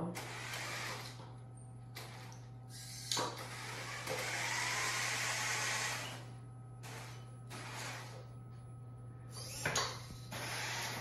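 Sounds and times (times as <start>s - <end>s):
electric motors whirring: 0.1s - 8.3s, 9.3s - 11.0s.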